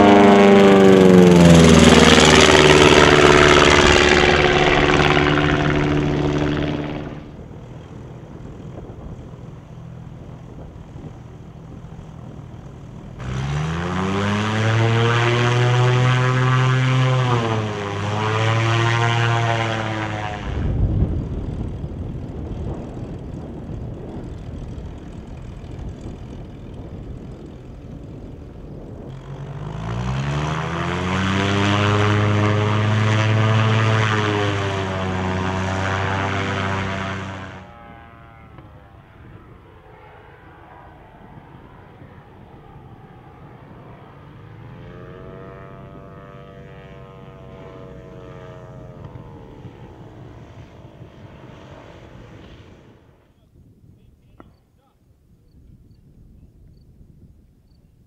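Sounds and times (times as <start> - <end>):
propeller plane engine revving: 0.0 - 53.4.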